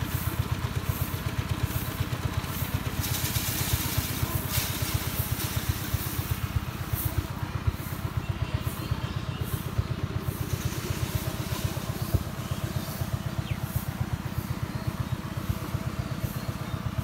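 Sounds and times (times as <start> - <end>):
rushing hiss: 0.0 - 8.2, 9.5 - 16.7
small engine chugging: 0.0 - 17.0.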